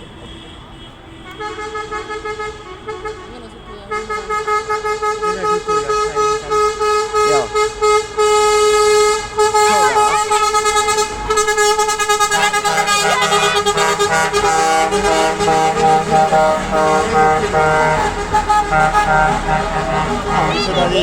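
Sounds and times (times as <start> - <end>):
diesel engine running: 0.0 - 21.0
truck air horn blast: 0.0 - 21.0
melody horn playing a tune: 1.0 - 21.0.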